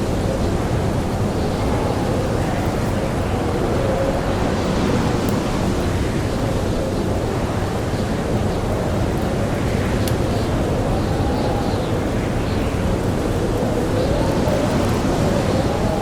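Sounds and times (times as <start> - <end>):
blizzard wind howling: 0.0 - 16.0
campfire crackle: 0.0 - 16.0.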